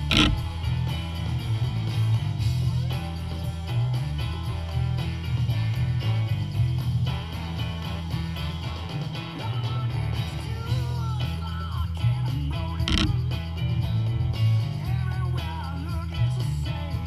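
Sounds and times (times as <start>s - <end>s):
guitar music with pulsing bass: 0.0s - 17.0s.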